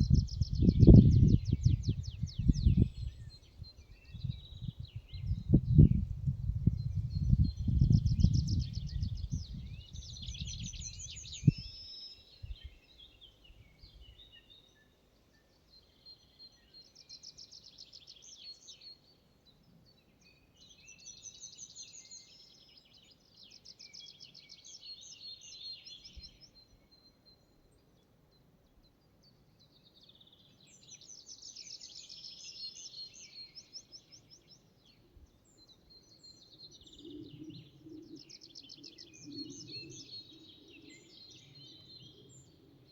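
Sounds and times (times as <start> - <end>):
songbirds singing trilled phrases: 0.0 - 14.9, 15.7 - 42.9.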